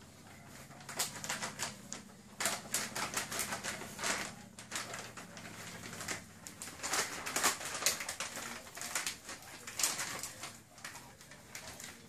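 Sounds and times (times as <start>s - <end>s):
plastic packet crinkling: 0.4s - 12.0s.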